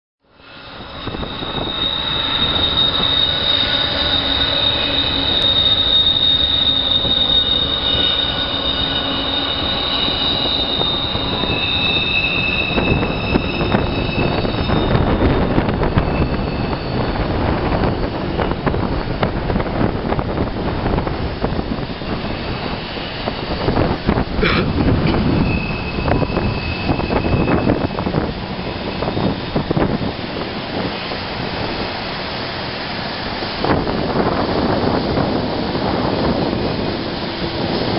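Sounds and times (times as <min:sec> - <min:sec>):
train wheels squealing: 0:00.3 - 0:37.9
train wheels rumbling on rails: 0:00.4 - 0:37.9.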